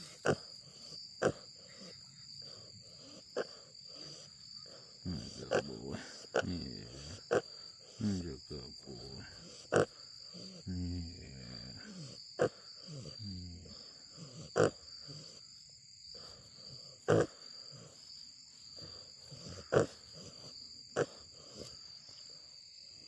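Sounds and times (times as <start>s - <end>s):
animal snoring: 0.0s - 15.5s, 16.1s - 18.0s, 18.8s - 21.8s.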